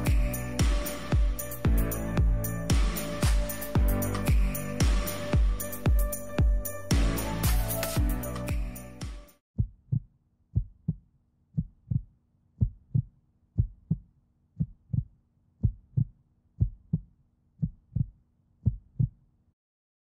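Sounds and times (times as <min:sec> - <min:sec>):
heartbeat thumps: 0:00.1 - 0:08.7, 0:09.6 - 0:11.0, 0:11.6 - 0:19.2.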